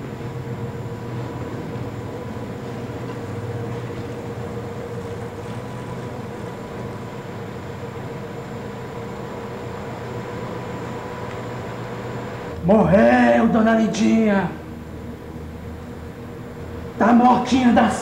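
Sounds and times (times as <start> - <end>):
steady rumbling with hum: 0.0 - 18.0.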